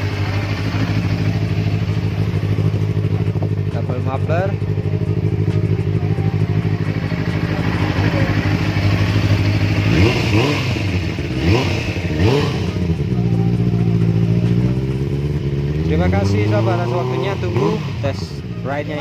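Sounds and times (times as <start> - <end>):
engine revving: 0.0 - 19.0
motorcycle engine idling: 0.0 - 19.0.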